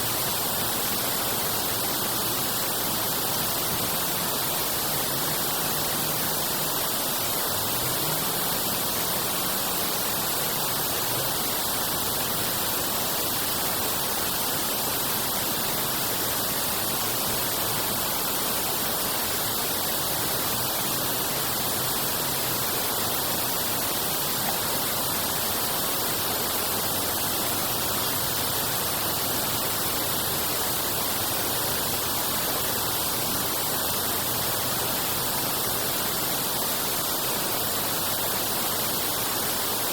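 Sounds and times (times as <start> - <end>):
water rushing through channel: 0.0 - 39.9.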